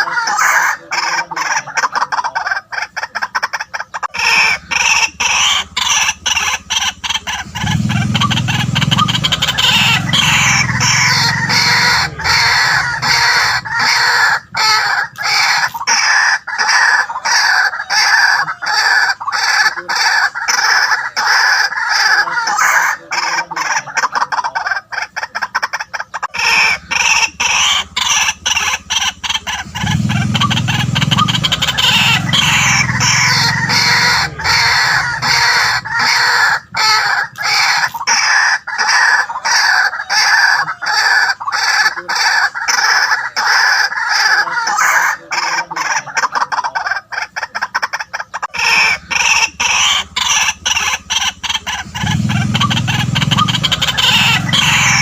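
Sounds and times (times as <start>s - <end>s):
waterhen harsh repeated calls: 0.0s - 55.0s.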